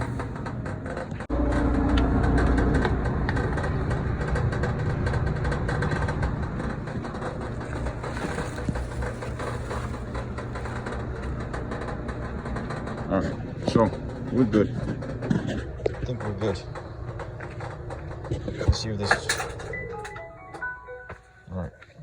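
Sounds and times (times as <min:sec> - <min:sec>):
dryer drum rattle: 0:00.0 - 0:20.7
clothes dryer humming: 0:00.0 - 0:21.5.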